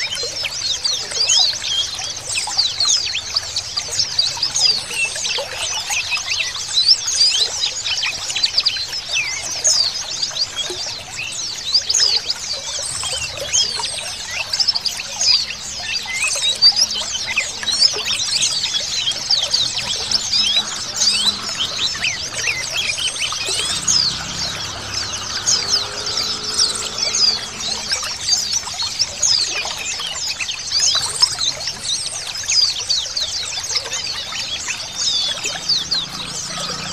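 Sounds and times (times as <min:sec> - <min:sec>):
birds twittering in chorus: 0:00.0 - 0:36.9
running water trickling: 0:00.0 - 0:36.9.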